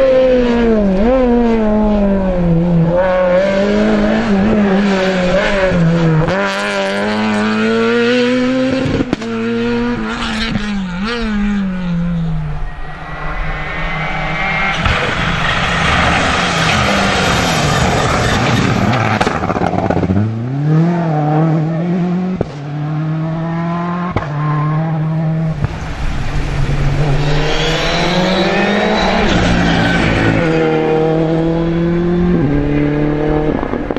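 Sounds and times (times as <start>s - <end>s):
rally car engines at full throttle: 0.0s - 33.9s.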